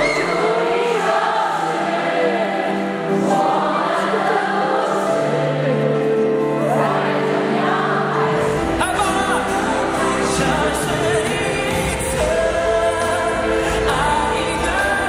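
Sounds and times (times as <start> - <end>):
crowd singing along: 0.0 - 15.0.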